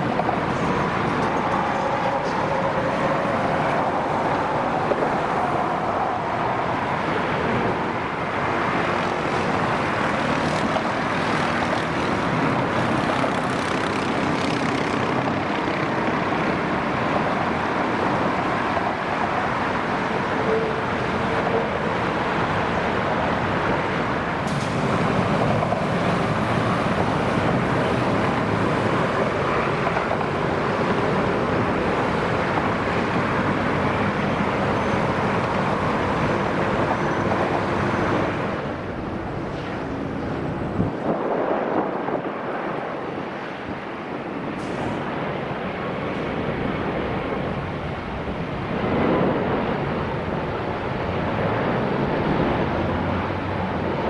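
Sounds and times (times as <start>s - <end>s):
jet engines roaring: 0.0s - 54.0s
wind on microphone: 0.0s - 54.0s.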